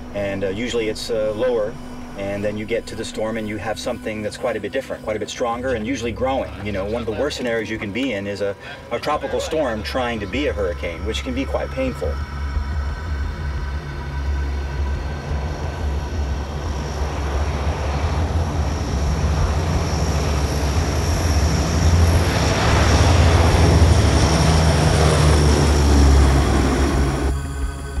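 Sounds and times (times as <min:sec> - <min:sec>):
high turbine whine: 0:00.0 - 0:28.0
propeller drone: 0:00.0 - 0:28.0.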